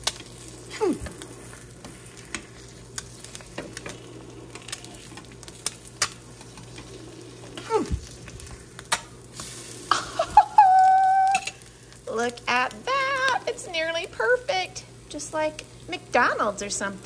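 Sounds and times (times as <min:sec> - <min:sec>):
egg sizzling in a frying pan: 0:00.0 - 0:17.0.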